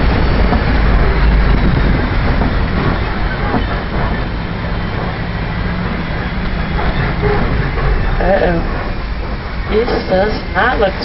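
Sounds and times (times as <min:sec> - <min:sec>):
engine drone: 0:00.0 - 0:11.0
heavy road rumble: 0:00.0 - 0:11.0.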